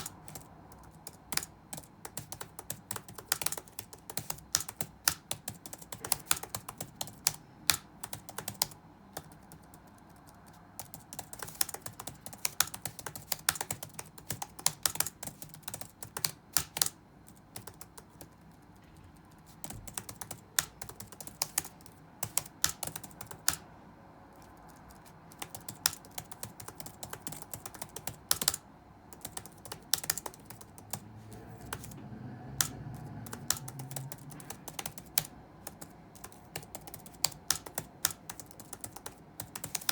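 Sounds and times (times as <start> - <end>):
typing on computer keyboard: 0.0 - 23.7, 24.3 - 39.9.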